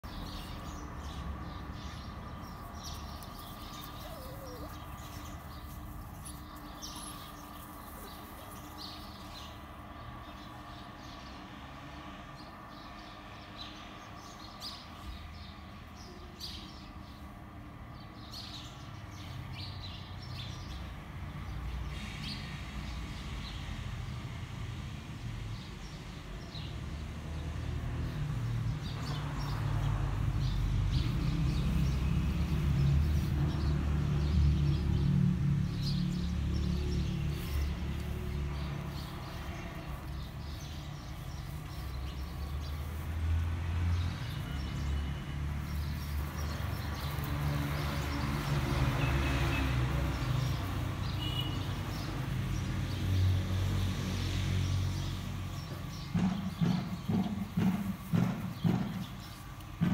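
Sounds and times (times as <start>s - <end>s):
small birds chirping: 0.0s - 23.7s, 25.4s - 59.9s.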